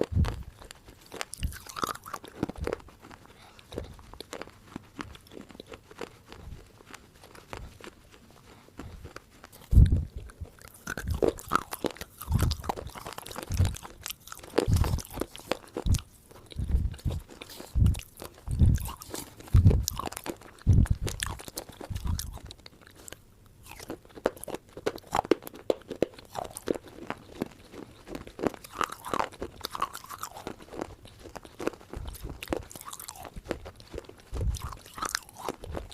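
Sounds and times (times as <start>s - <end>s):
crunchy food being chewed: 0.0s - 35.9s.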